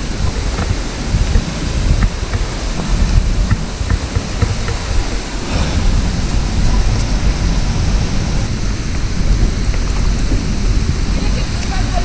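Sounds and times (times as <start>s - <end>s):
stream and waterfall rushing: 0.0s - 12.0s
wind on microphone: 0.0s - 12.0s.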